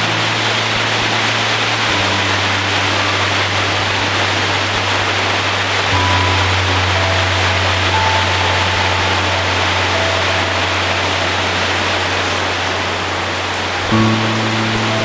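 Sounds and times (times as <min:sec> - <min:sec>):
heavy rain on a metal roof: 0:00.0 - 0:15.0
low steady hum: 0:00.0 - 0:15.0.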